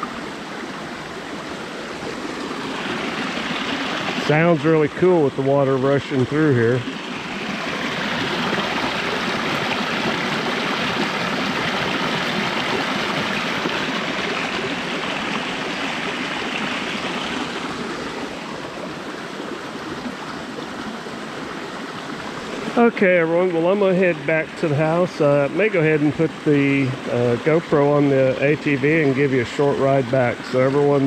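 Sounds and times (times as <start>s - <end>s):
floodwater rushing in a stream: 0.0s - 31.0s.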